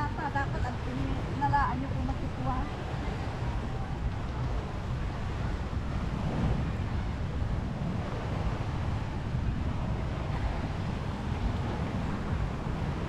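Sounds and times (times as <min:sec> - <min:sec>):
beach surf: 0:00.0 - 0:13.0
wind buffeting microphone: 0:00.0 - 0:13.0.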